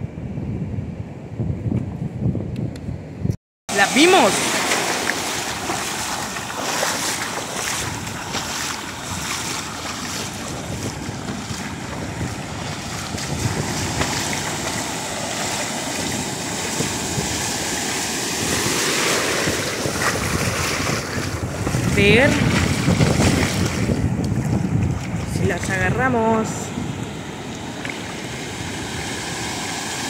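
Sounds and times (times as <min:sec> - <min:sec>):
ocean surf breaking: 0:03.7 - 0:30.0.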